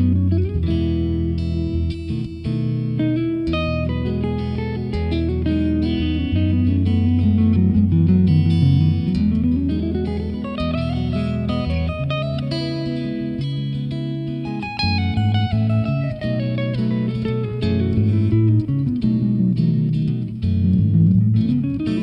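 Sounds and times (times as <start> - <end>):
guitar music with bass line: 0.0 - 22.0.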